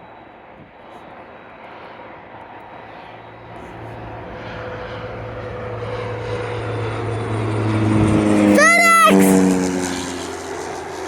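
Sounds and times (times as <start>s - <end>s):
propeller plane engine drone: 0.1s - 11.0s.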